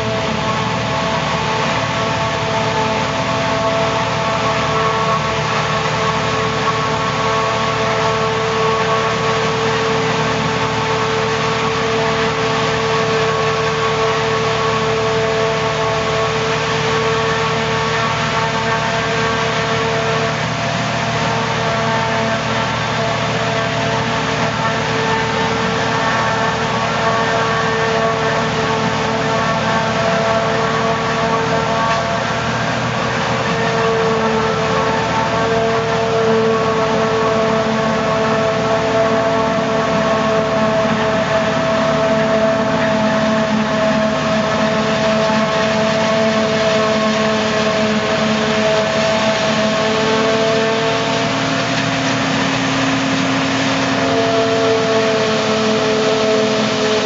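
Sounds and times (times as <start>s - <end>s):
constant whining tones: 0.0s - 57.0s
forage harvester engine drone: 0.0s - 57.0s.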